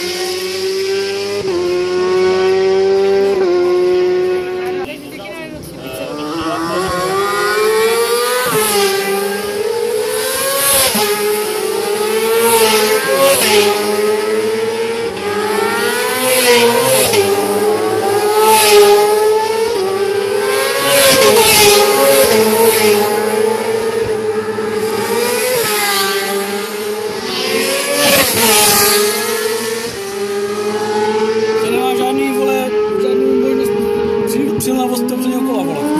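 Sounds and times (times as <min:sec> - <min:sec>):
motorcycle engine at full throttle: 0:00.0 - 0:35.9.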